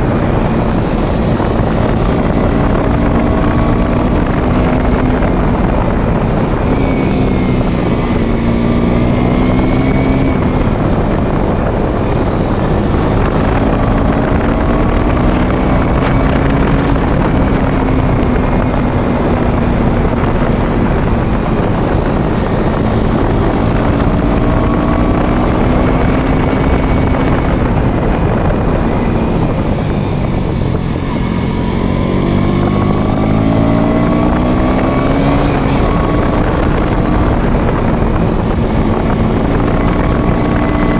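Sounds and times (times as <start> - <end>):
motorcycle engine running: 0.0 - 40.9
wind on microphone: 0.0 - 40.9.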